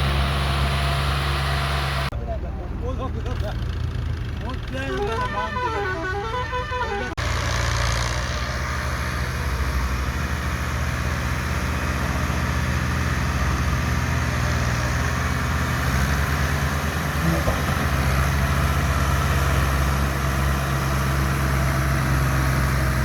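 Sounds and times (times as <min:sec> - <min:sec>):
tractor diesel engine running: 0:00.0 - 0:06.0, 0:06.7 - 0:23.0.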